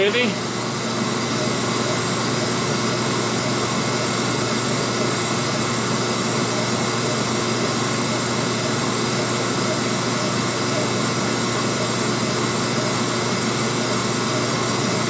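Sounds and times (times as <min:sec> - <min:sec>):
lathe machine hum and whir: 0:00.0 - 0:15.0.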